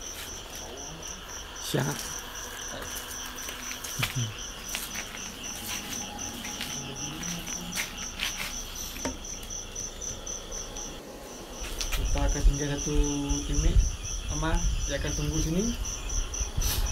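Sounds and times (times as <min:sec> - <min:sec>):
cricket chirping: 0:00.0 - 0:16.9
night insects: 0:00.0 - 0:16.9.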